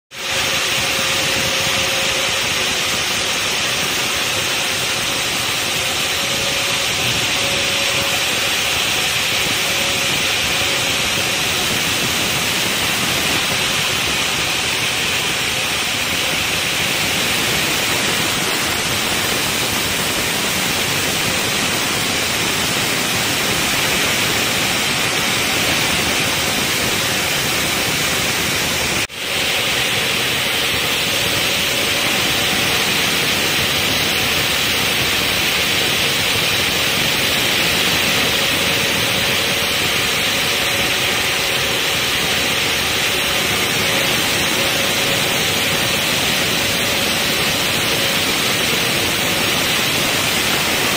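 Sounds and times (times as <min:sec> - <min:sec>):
stone saw cutting with water spray: 0:00.1 - 0:50.9.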